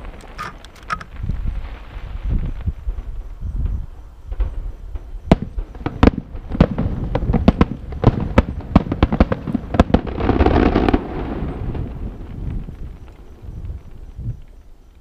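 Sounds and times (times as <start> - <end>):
fireworks bangs: 0.0 - 14.1
rushing fireworks crackle: 0.0 - 15.0.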